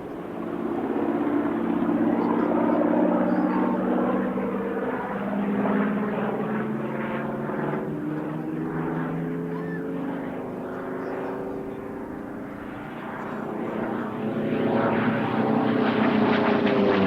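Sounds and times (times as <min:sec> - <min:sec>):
propeller plane flying by: 0:00.0 - 0:17.0.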